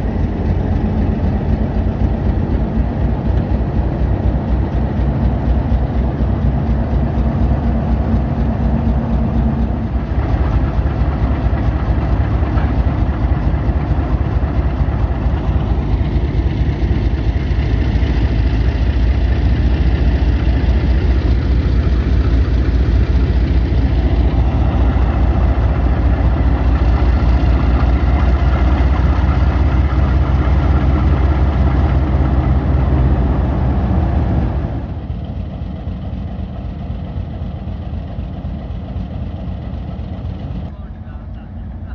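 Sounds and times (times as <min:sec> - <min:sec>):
diesel locomotive engine running: 0:00.0 - 0:41.9
higher engine tone: 0:00.0 - 0:41.9.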